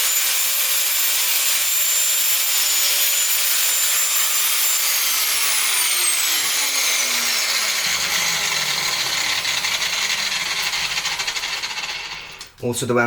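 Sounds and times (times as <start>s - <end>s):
power tool cutting plastic: 0.0s - 12.6s.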